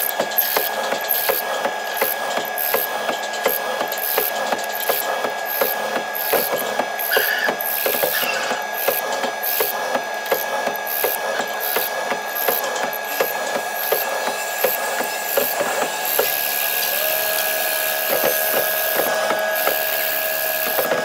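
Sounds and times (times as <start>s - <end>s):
high machine whine: 0.0s - 21.0s.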